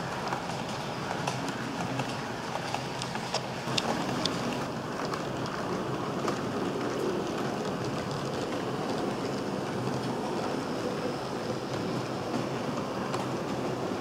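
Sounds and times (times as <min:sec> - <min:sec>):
faint rail clicks: 0:00.0 - 0:14.0
model train rolling rumble: 0:00.0 - 0:14.0.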